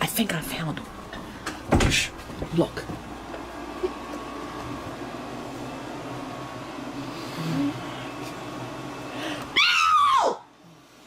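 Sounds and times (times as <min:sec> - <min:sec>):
steady whirring room noise: 0:00.0 - 0:11.0.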